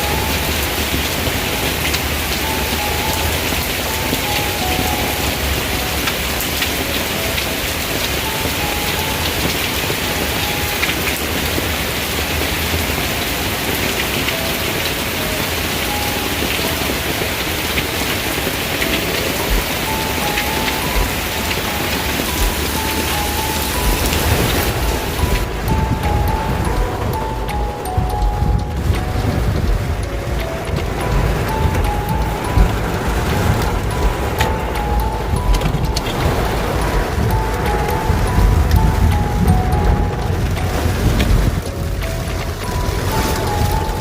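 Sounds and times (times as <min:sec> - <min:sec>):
faint tune of held notes: 0:00.0 - 0:44.0
heavy rain: 0:00.0 - 0:44.0.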